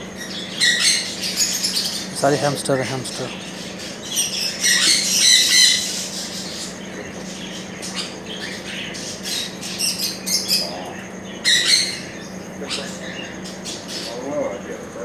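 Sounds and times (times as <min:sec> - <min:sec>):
birds squawking and chirping: 0:00.0 - 0:15.0.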